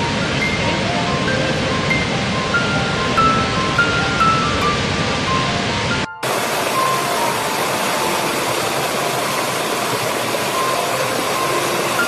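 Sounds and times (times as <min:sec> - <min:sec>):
rushing white water: 0:00.0 - 0:12.0.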